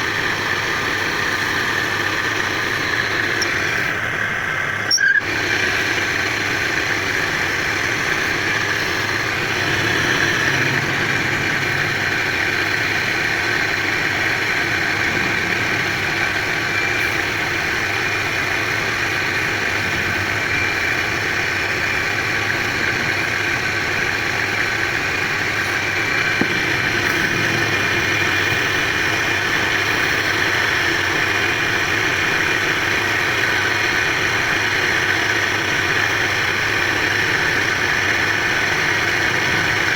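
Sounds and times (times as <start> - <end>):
motor-driven machine humming and whirring: 0.0 - 39.9.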